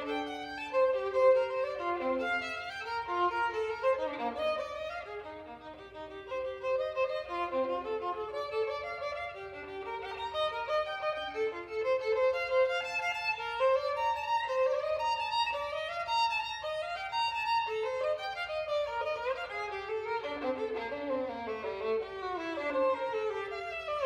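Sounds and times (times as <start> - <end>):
solo violin fast passage: 0.0 - 24.0.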